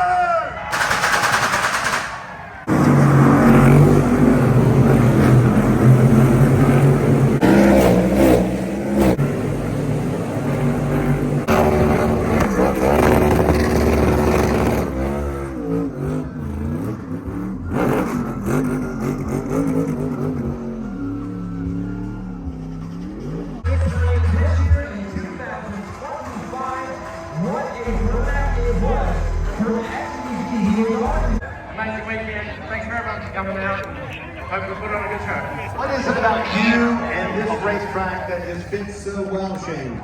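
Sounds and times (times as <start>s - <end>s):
racing car engines revving: 2.5s - 40.0s.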